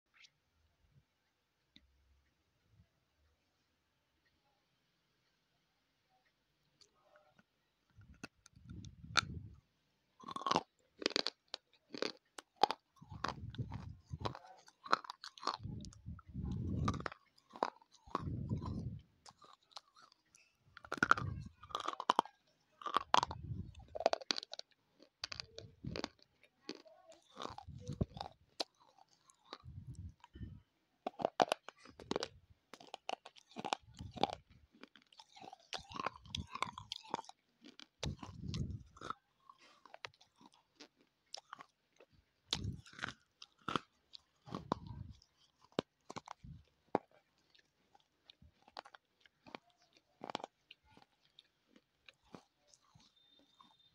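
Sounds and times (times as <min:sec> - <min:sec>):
chewing brittle clay: 0:06.8 - 0:09.6, 0:10.2 - 0:53.9.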